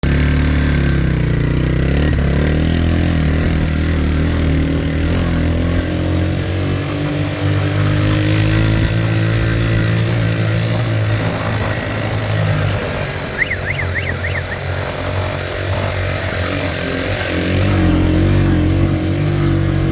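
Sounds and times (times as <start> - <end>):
vehicle engine running: 0.0 - 19.9.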